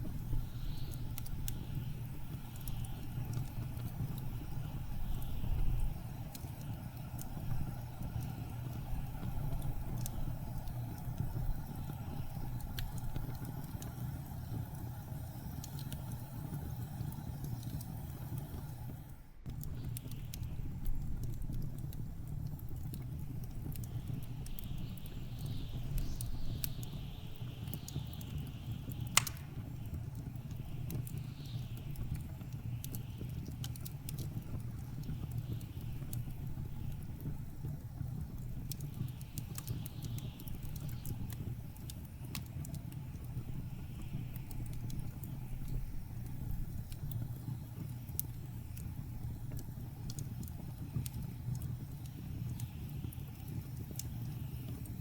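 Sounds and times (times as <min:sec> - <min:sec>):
low rumble of blizzard wind: 0:00.0 - 0:55.0
wood fire crackling and popping: 0:00.0 - 0:55.0.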